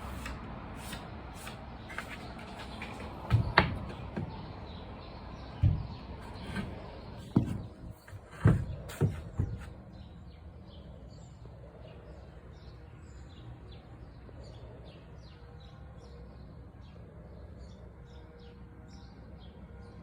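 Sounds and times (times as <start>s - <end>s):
birds chirping: 0.1s - 16.2s.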